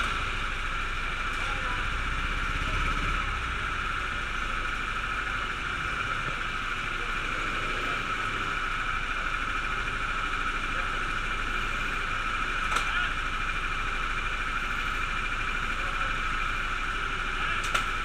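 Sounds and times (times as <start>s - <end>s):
go-kart engines idling: 0.0s - 18.0s.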